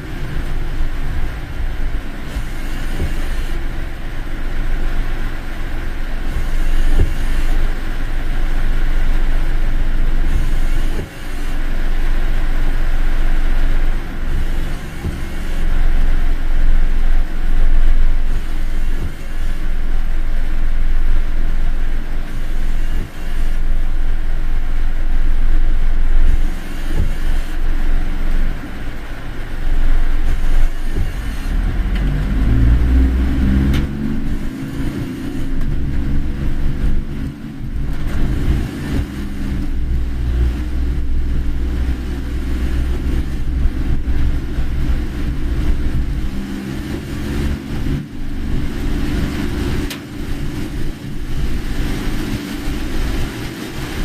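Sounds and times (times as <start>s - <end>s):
engine and tyre rumble: 0.0s - 54.0s
hiss of water from tyres: 0.0s - 54.0s
pitched engine hum: 0.0s - 54.0s.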